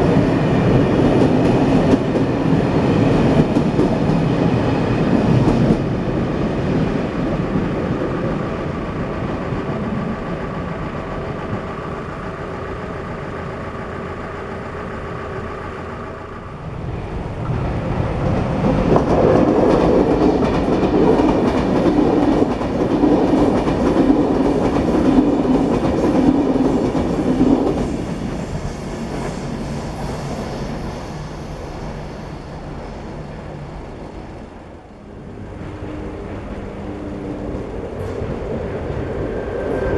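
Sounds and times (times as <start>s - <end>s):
train wheels clattering over rails: 0.0s - 16.0s, 17.2s - 34.5s.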